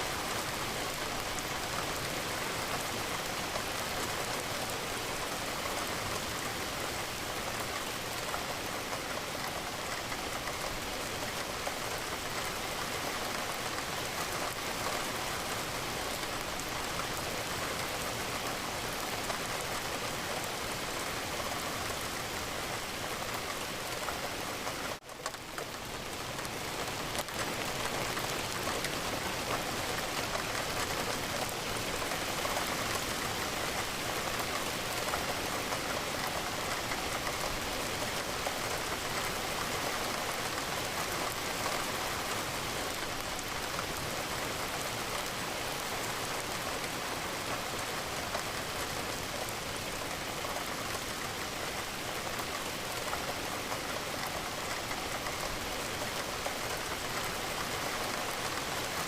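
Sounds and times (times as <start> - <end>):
rain patter on window: 0.0 - 59.0.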